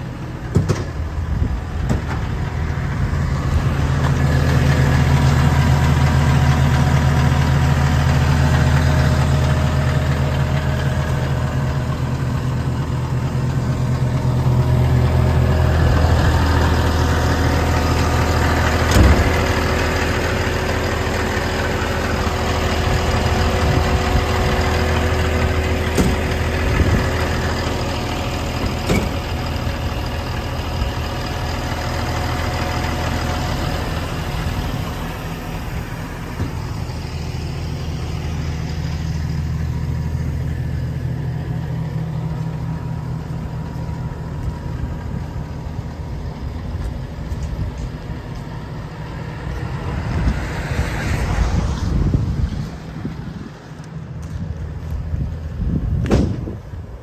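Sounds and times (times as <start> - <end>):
diesel excavator engine idling: 0.0 - 57.0.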